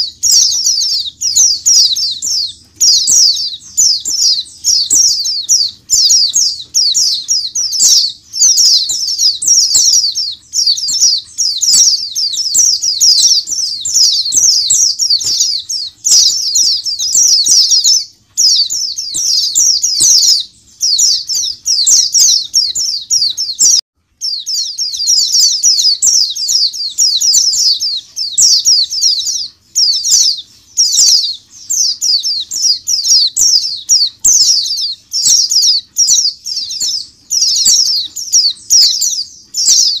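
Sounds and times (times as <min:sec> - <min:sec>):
flock of birds chirping: 0:00.0 - 0:40.0.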